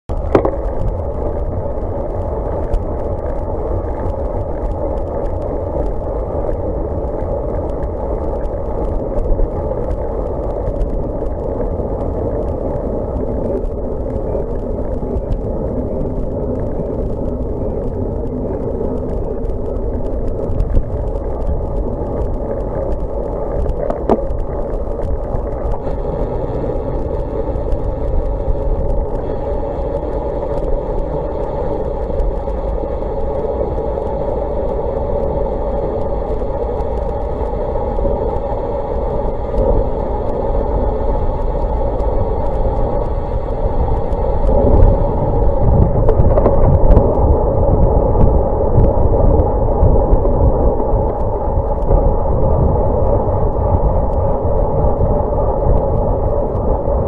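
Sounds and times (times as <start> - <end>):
wind noise: 0.0 - 57.0.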